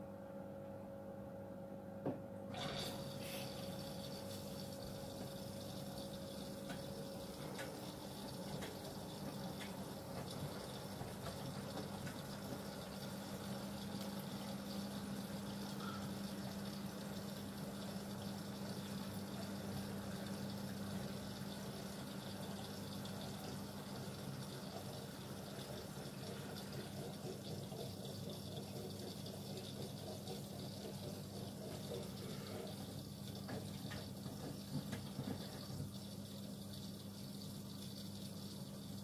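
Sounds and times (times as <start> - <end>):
water running in washing machine: 2.5 - 39.0.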